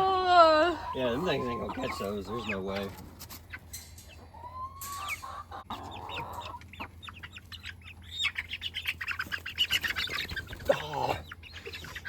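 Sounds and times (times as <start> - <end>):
hens clucking and squawking: 0.0 - 12.0
chicks peeping: 0.1 - 12.0.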